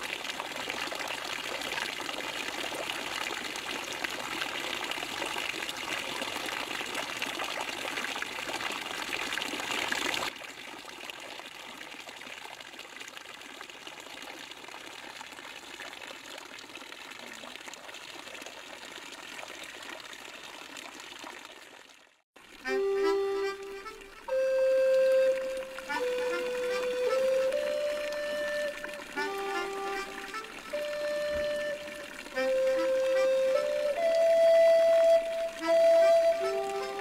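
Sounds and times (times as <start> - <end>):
water streaming and splashing: 0.0 - 37.0.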